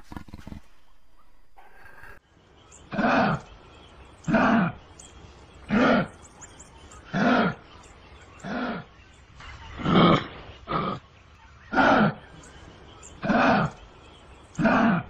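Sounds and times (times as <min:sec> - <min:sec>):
kangaroo calls: 0:02.8 - 0:15.0.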